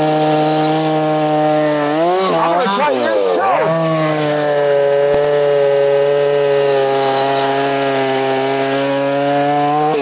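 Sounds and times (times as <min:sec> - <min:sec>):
electric chainsaw: 0:00.0 - 0:10.0
gas chainsaw cutting logs: 0:00.0 - 0:10.0.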